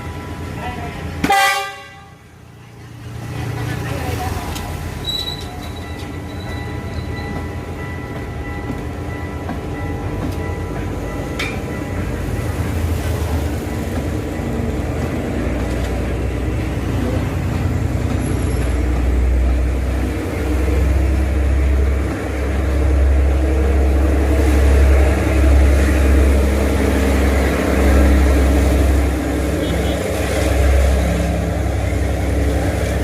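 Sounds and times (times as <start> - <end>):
diesel train engines rumbling: 0.0 - 33.0.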